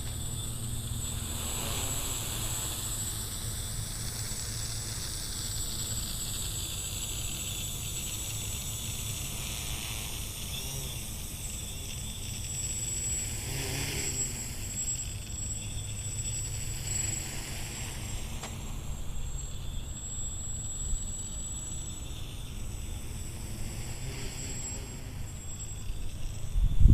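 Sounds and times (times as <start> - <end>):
quadcopter propellers buzzing: 0.0 - 26.9.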